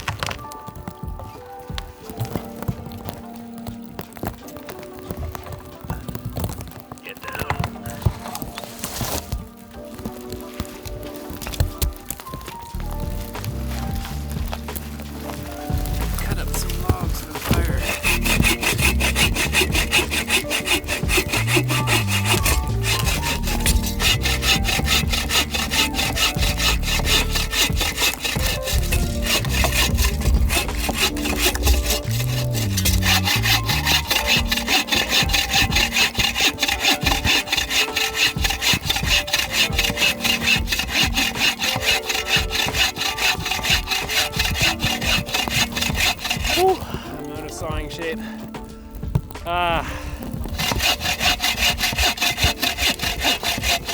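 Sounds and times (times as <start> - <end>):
hand saw cutting wood: 0.0 - 53.9.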